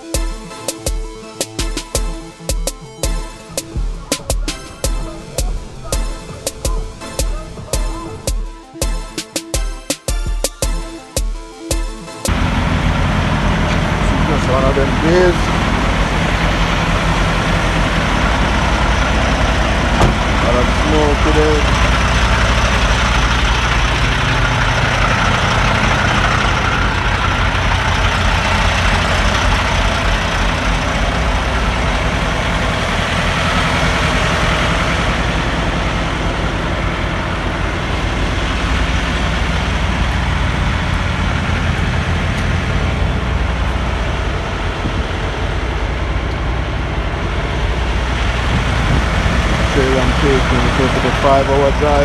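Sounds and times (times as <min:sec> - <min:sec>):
diesel truck engine droning: 0:00.0 - 0:52.0.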